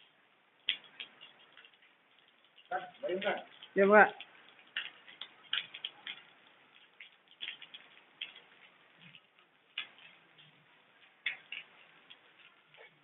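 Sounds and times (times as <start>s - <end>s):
soft patter of rain: 0.0s - 13.0s
water drops dripping: 0.0s - 13.0s.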